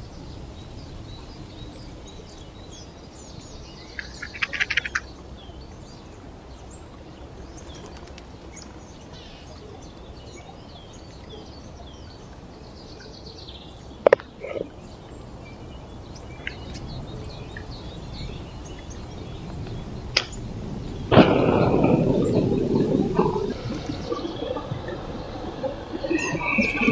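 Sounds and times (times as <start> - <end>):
forest background rushing: 0.0 - 26.9
small birds chirping: 0.0 - 26.9.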